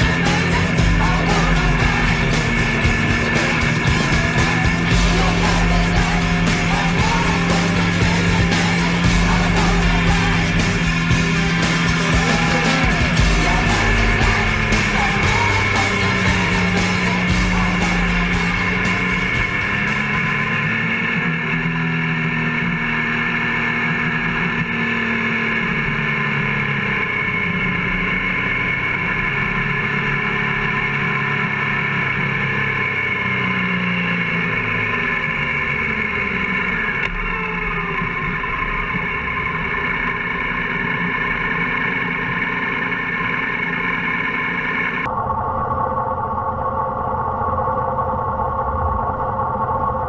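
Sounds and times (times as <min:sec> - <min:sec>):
motorcycle engine running: 0:00.0 - 0:50.0
road noise: 0:00.0 - 0:50.0.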